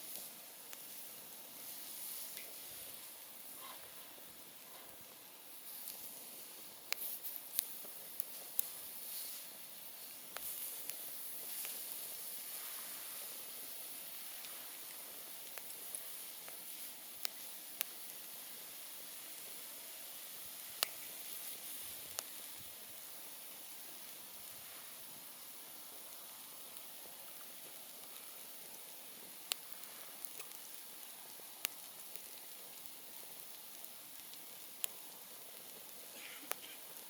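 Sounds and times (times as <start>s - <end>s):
campfire hissing: 0.0s - 37.0s
fire crackling pops: 0.0s - 37.0s.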